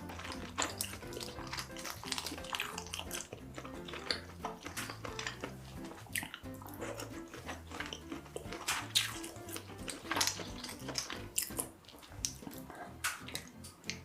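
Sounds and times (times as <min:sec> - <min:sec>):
background music: 0:00.0 - 0:14.0
wet chewing and smacking: 0:00.0 - 0:14.0.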